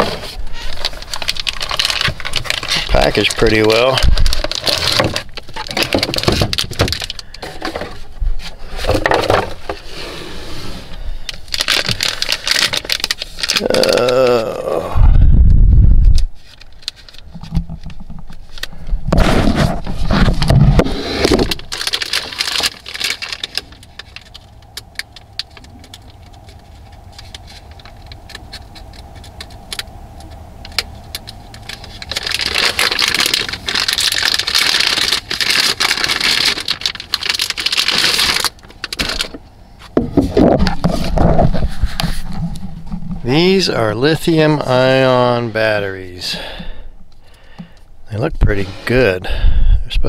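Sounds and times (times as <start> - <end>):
foil bags crinkling: 0.0 - 14.7, 16.2 - 47.8.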